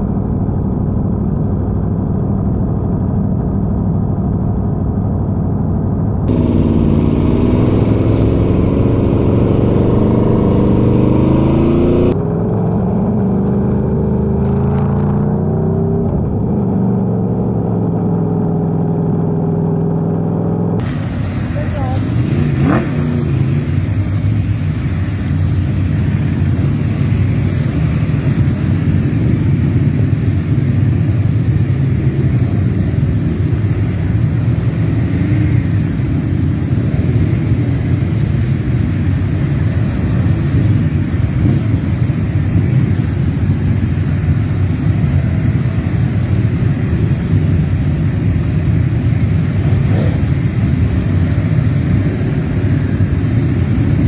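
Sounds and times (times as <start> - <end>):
wind rush on microphone: 0.0 - 13.0, 20.8 - 54.0
motorcycle engine running: 0.0 - 20.0, 20.6 - 54.0.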